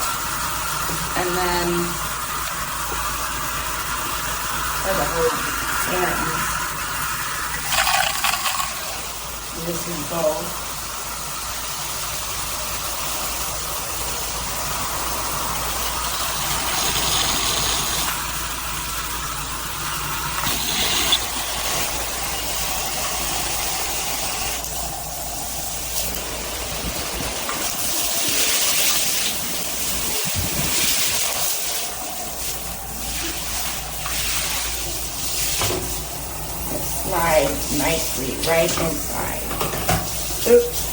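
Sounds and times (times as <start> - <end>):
shower water spraying: 0.0 - 40.9.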